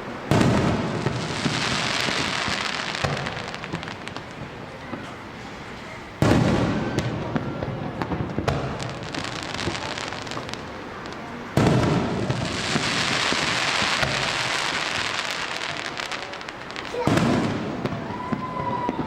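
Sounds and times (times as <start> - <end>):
firework crackling: 0.0 - 19.0
firework shells booming: 0.2 - 5.4, 6.2 - 19.0.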